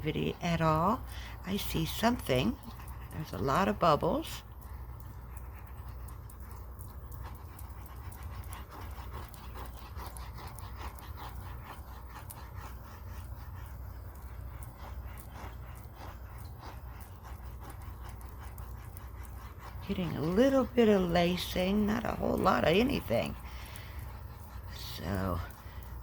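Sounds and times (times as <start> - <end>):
dog panting: 0.0 - 26.0
low steady hum: 0.0 - 26.0.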